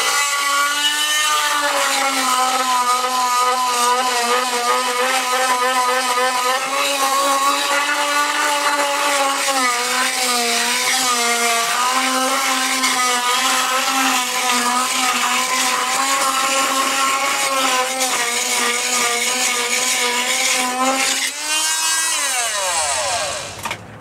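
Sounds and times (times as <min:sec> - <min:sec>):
blade scraping mortar: 0:00.0 - 0:23.8
oscillating multi-tool buzzing: 0:00.0 - 0:23.8.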